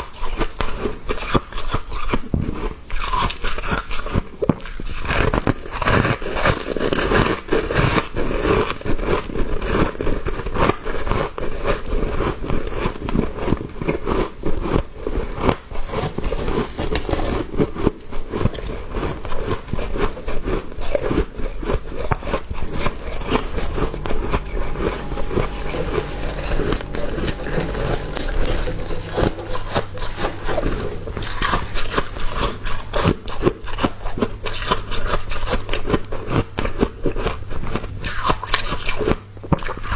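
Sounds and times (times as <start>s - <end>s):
chewing and crunching ice: 0.0s - 25.1s, 31.2s - 39.9s.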